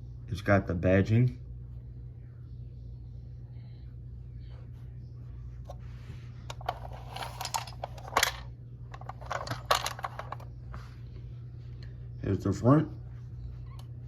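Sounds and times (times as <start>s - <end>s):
low hum: 1.2s - 14.0s.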